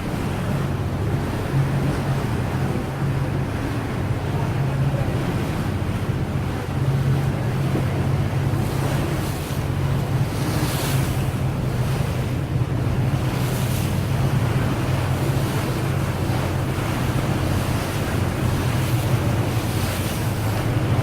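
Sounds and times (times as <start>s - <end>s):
boat engine droning: 0.0s - 21.0s
water rushing: 0.0s - 21.0s
wind buffeting microphone: 0.0s - 21.0s.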